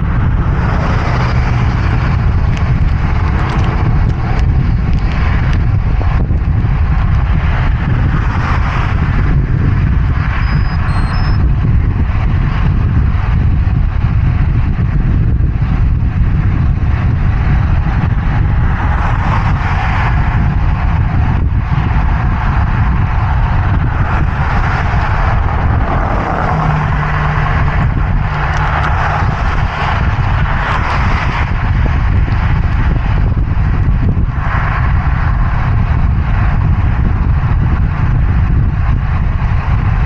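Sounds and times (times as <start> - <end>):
highway traffic: 0.0 - 40.0
vehicle engine hum: 0.0 - 40.0
wind rushing over microphone: 0.0 - 40.0.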